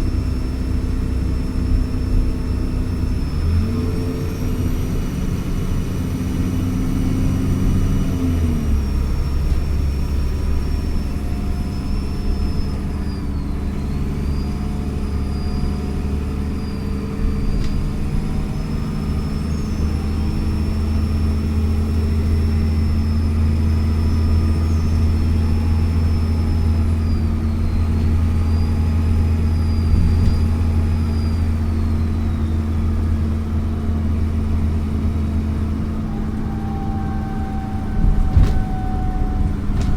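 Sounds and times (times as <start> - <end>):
bus engine running: 0.0 - 39.9
high turbo whistle: 6.7 - 39.9.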